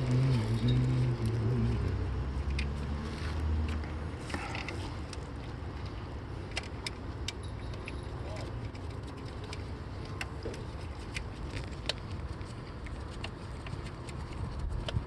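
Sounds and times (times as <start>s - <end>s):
vehicle engine running: 0.0s - 14.8s.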